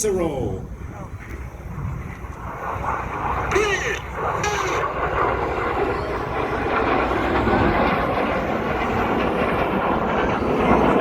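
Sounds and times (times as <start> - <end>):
jets flying overhead: 0.0 - 11.0.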